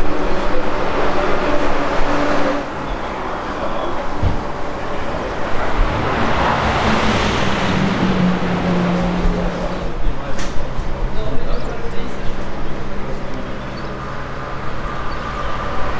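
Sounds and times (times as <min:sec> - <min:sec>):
car passing: 0:00.5 - 0:11.1, 0:12.0 - 0:15.9
low engine hum: 0:02.6 - 0:15.9.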